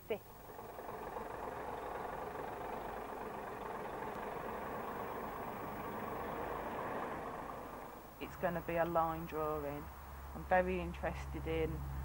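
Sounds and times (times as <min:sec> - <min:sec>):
lorry engine running: 0:00.0 - 0:09.9.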